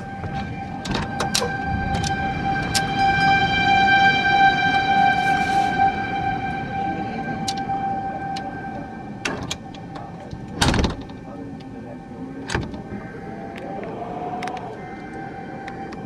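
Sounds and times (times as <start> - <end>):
warning siren steady tone: 0.0 - 16.0.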